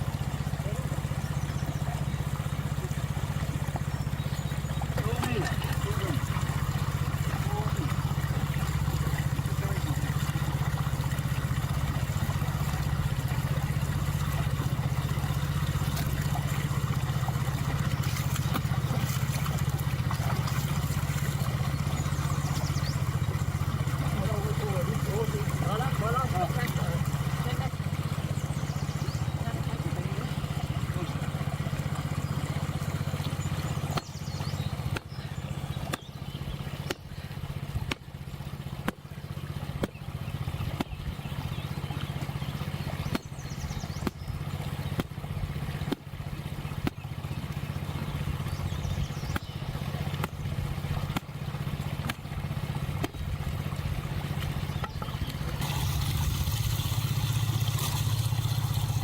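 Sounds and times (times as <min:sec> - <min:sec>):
small engine humming: 0:00.0 - 0:59.0.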